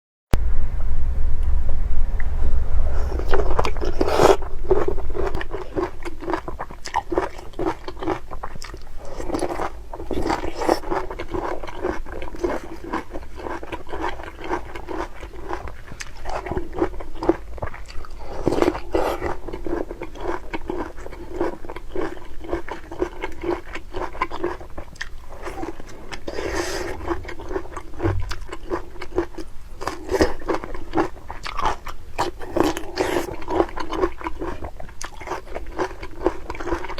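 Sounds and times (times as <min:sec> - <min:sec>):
crunchy bite: 0:02.9 - 0:36.9
crunchy chewing: 0:02.9 - 0:36.9.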